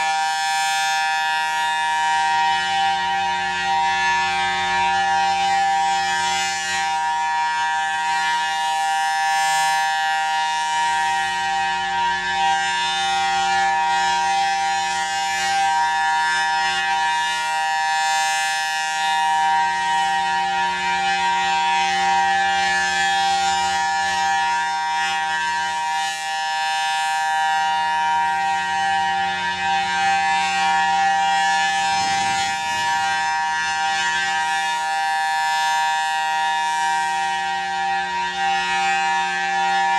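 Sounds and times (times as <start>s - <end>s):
rotating siren steady tone: 0.0s - 39.9s.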